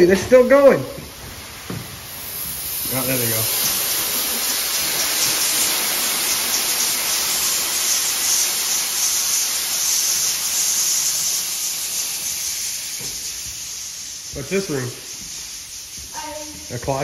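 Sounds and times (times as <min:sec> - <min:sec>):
sprinklers spraying water: 0:00.0 - 0:17.0.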